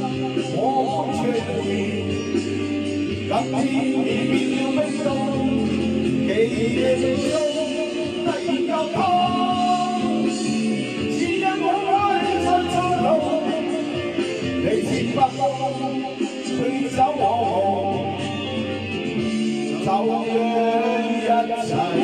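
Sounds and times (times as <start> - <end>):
man singing into a microphone: 0.0 - 18.5, 19.6 - 22.0
karaoke backing track: 0.0 - 22.0.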